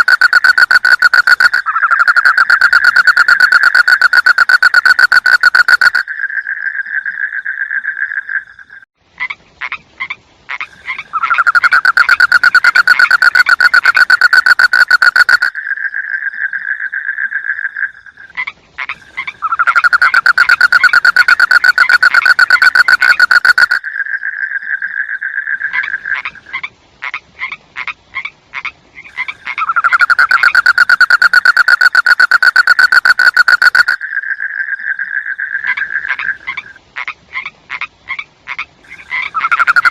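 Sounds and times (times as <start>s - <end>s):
frog calling in pulsed trill: 0.0s - 8.8s, 10.6s - 25.9s, 29.1s - 36.8s, 38.9s - 39.9s.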